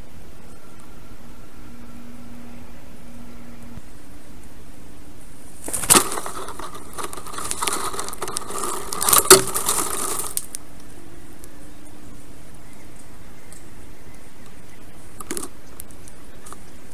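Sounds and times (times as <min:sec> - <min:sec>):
rustling with twigs cracking: 0:03.1 - 0:16.9.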